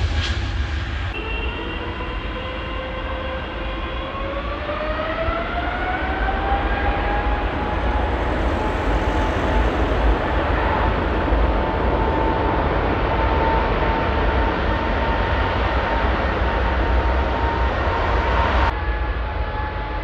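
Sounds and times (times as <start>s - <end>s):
jet engines spooling up whine: 0.0s - 20.0s.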